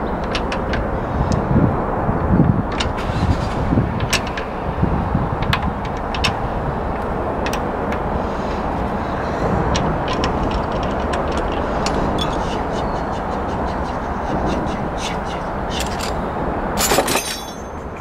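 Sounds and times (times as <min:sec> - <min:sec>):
outdoor background rumble: 0:00.0 - 0:18.0.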